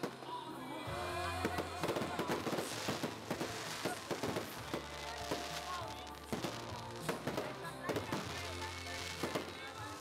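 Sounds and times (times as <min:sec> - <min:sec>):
fireworks bangs and crackles: 0:00.0 - 0:00.3, 0:01.3 - 0:10.0.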